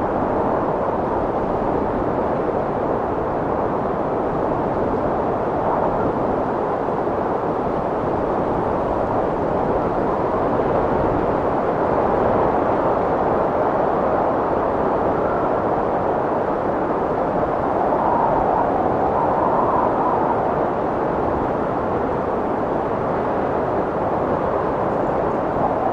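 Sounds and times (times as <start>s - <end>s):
strong wind blowing: 0.0s - 25.9s.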